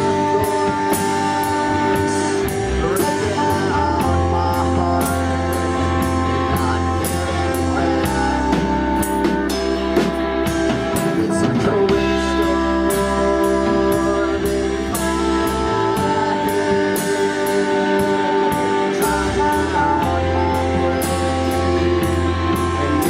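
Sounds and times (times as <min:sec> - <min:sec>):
bass guitar: 0:00.0 - 0:23.0
drum kit with cymbal hits: 0:00.0 - 0:23.0
rock band playing: 0:00.0 - 0:23.0.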